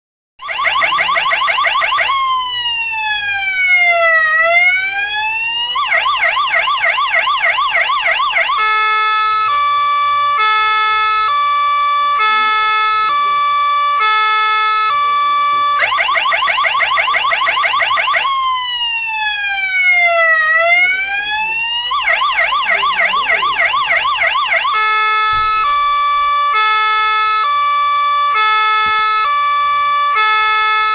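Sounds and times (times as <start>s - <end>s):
electronic ambulance siren: 0.4s - 30.9s.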